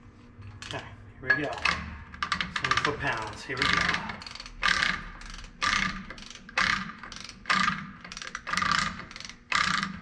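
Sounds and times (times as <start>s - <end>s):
torque wrench ratchet clicks: 1.4s - 10.0s.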